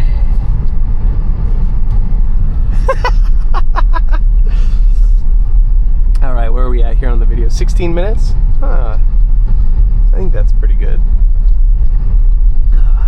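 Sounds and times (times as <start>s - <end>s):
tyres rumbling on snowy road: 0.0s - 13.0s.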